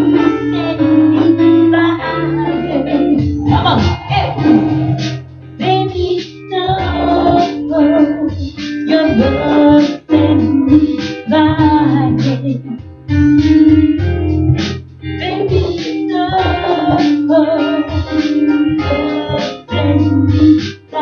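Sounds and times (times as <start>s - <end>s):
person singing: 0.0s - 14.2s, 15.2s - 21.0s
bass line: 0.0s - 20.6s
song with plucked guitar: 0.0s - 21.0s.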